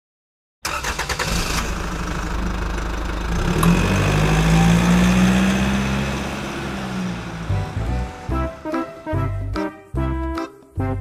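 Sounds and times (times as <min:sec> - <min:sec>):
truck engine starting and running: 0:00.6 - 0:10.4.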